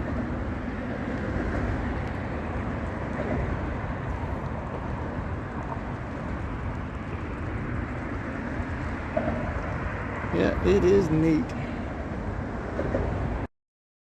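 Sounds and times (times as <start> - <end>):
car engine and road noise: 0.0 - 13.5.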